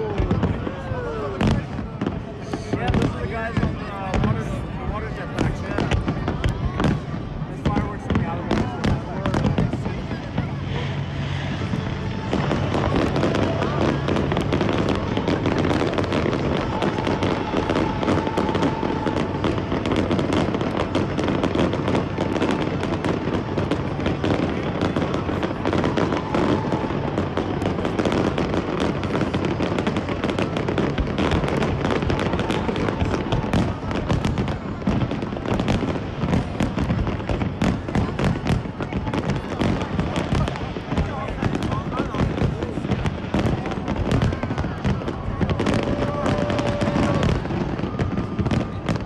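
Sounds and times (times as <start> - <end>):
fireworks bursting and crackling: 0.0 - 49.0.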